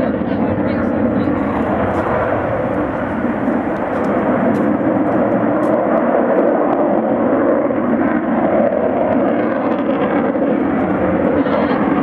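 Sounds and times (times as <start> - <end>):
jet engine roar overhead: 0.0 - 12.0.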